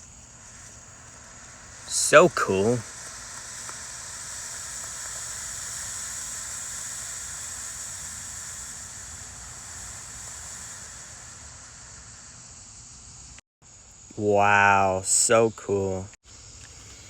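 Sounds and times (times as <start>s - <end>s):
firework hissing: 0.0s - 17.0s.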